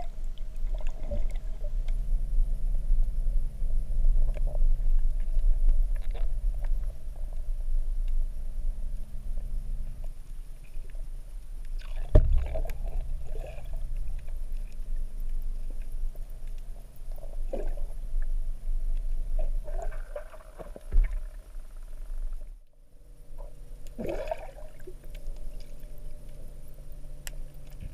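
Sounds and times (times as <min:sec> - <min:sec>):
underwater water gurgling: 0:00.0 - 0:22.6, 0:23.2 - 0:27.9
low rumble and hum: 0:00.0 - 0:27.9.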